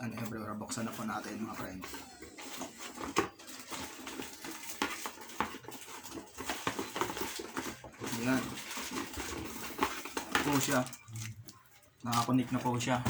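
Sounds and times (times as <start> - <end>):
packaging rustling: 0.2 - 13.0.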